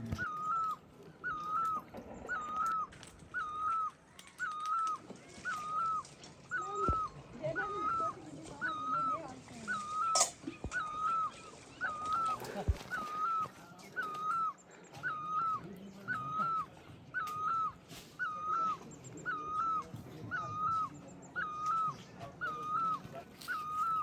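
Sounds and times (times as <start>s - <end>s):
animal whining calls: 0.0s - 24.0s.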